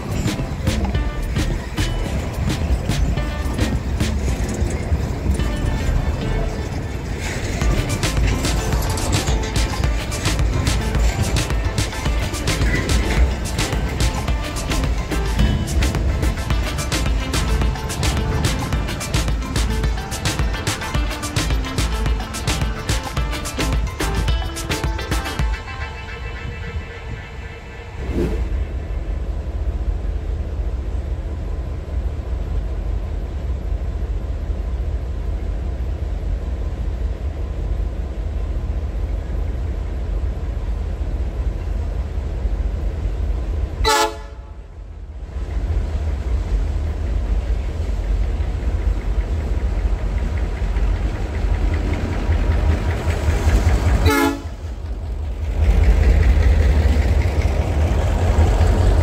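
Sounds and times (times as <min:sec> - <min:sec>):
diesel train rumbling: 0:00.0 - 0:59.0.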